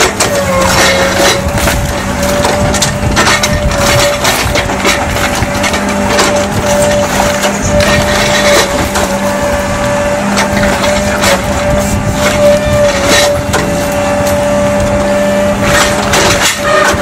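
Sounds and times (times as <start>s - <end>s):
concrete cracking and crunching: 0.0s - 13.7s, 15.6s - 17.0s
constant machine hum: 0.0s - 17.0s
excavator engine drone: 0.0s - 17.0s.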